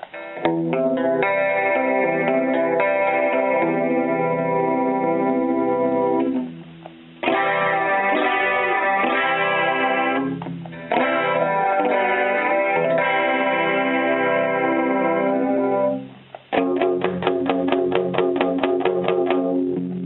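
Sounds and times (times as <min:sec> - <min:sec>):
electric guitar chords: 0:00.0 - 0:20.0.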